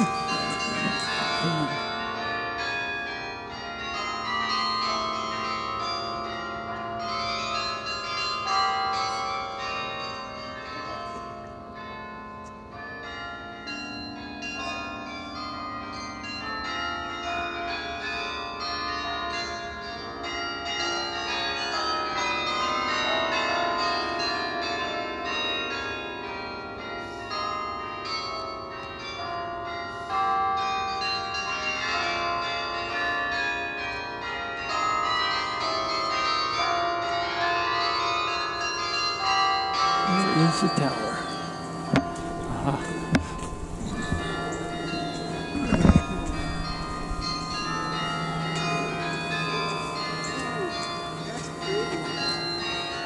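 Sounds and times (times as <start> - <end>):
carillon bells playing a melody: 0.0 - 53.0.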